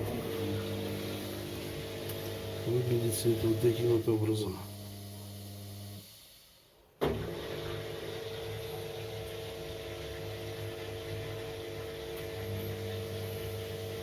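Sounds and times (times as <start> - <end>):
drain pump humming: 0.0 - 6.4, 7.0 - 14.0
washing machine hum: 0.0 - 14.0.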